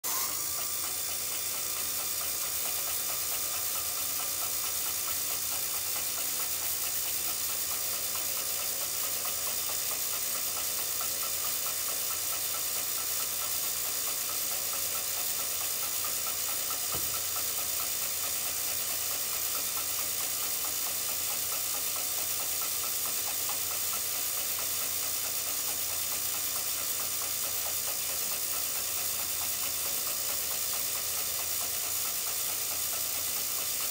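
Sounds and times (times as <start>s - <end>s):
drill press running: 0.0s - 33.9s.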